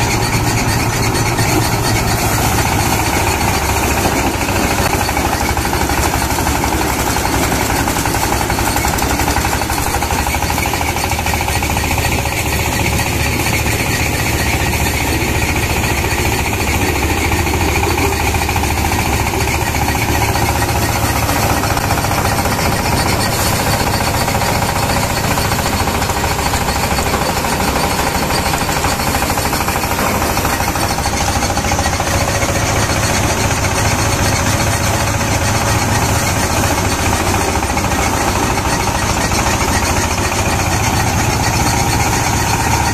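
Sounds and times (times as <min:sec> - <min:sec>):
rice thresher clattering: 0:00.0 - 0:42.9.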